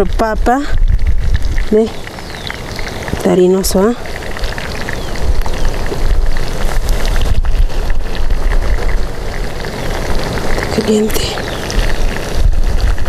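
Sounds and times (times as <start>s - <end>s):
wind buffeting microphone: 0.0s - 13.0s
wood fire crackling: 0.0s - 13.0s.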